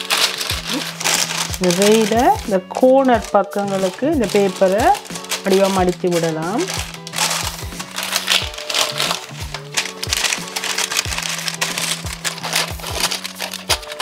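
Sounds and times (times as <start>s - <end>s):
background music with beat: 0.0s - 14.0s
paper crinkling: 0.0s - 14.0s.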